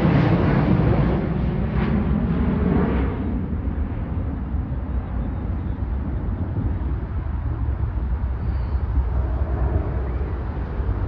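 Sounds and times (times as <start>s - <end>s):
jet engines rumbling at takeoff: 0.0s - 11.0s.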